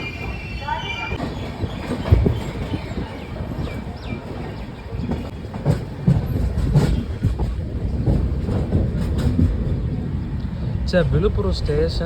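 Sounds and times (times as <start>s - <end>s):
train wheels clattering over rail joints: 0.1s - 10.2s.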